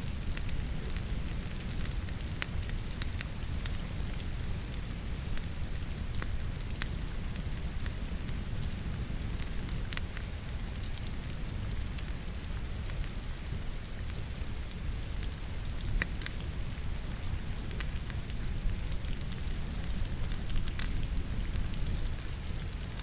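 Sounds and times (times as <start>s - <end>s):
falling rain: 0.0s - 23.0s
logs crackling in fireplace: 0.0s - 23.0s.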